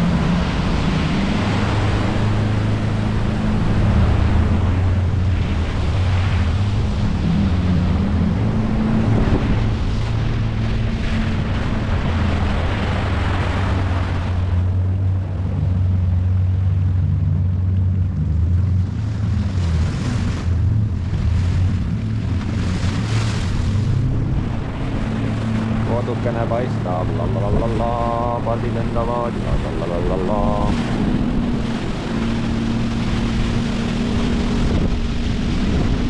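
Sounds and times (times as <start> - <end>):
outboard motor running: 0.0 - 36.0
water and wind rushing: 0.0 - 36.0.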